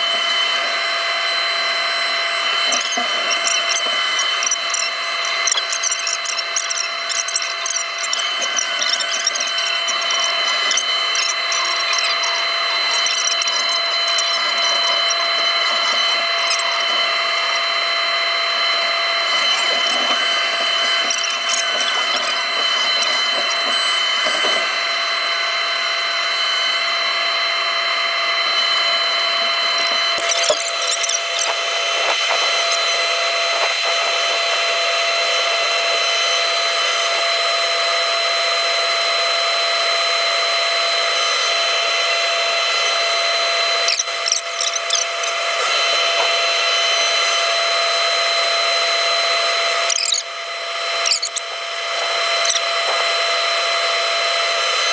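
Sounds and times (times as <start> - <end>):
excavator hydraulics whining: 0.0 - 54.9.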